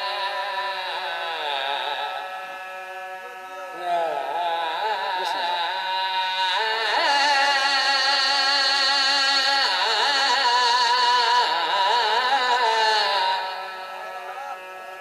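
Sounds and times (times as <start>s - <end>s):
man singing melismatic notes: 0.0s - 15.0s.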